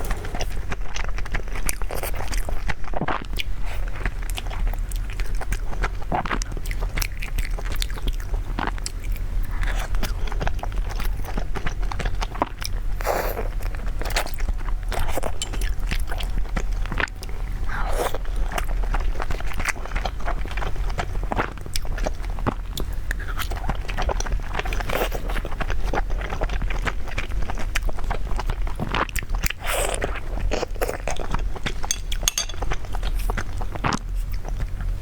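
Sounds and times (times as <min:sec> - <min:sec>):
chewing with wet clicks: 0:00.0 - 0:35.0
steady low hum: 0:00.0 - 0:35.0.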